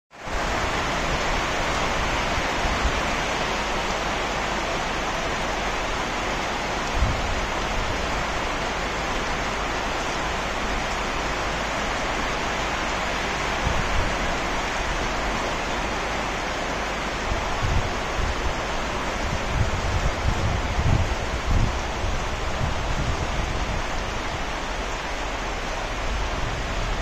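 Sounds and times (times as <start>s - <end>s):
heavy rain falling: 0.1s - 27.0s.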